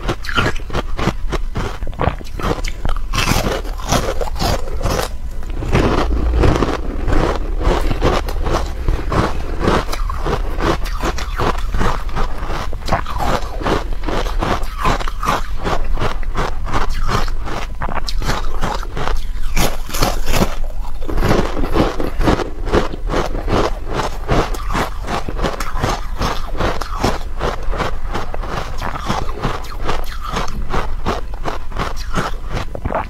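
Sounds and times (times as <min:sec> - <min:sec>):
ice crunching being chewed: 0:00.0 - 0:33.0.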